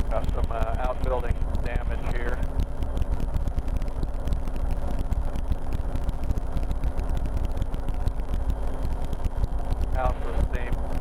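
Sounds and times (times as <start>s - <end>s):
helicopter engine and rotor noise: 0.0s - 11.0s.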